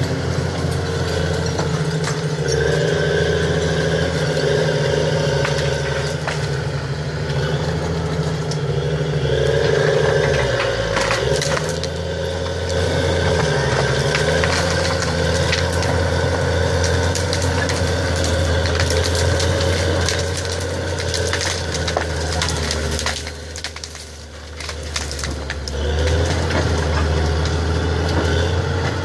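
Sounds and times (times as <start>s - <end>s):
bulldozer diesel engine running: 0.0s - 29.0s
wood cracking and snapping: 0.0s - 29.0s.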